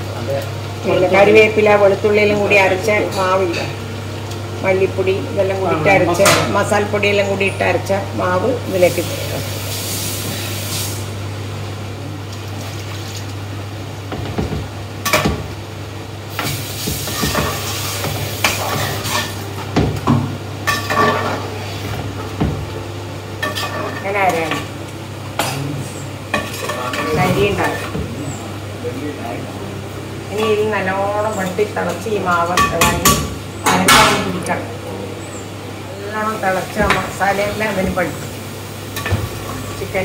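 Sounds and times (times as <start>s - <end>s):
curry sizzling: 0.0s - 40.0s
steady low hum: 0.0s - 40.0s.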